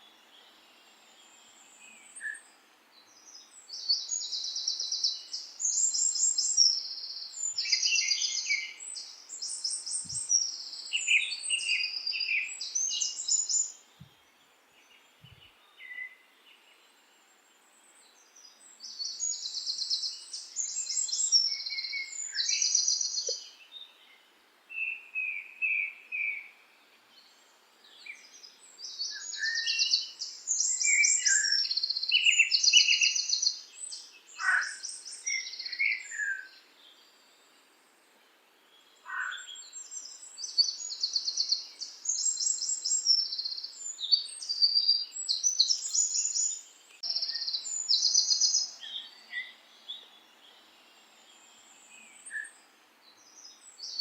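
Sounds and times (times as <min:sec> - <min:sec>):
birdsong trills and whistles: 0:00.0 - 0:17.0, 0:17.8 - 0:37.7, 0:38.7 - 0:54.0.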